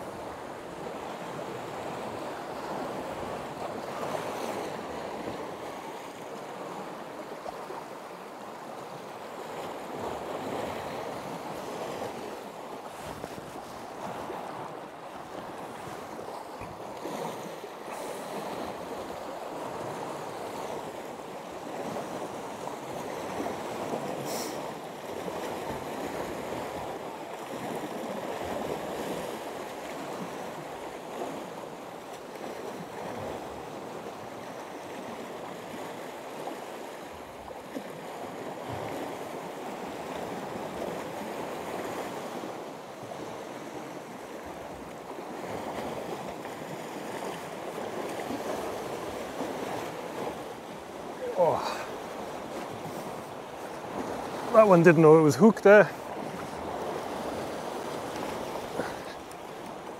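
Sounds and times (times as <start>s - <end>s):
waves washing against rocks: 0.0s - 59.9s.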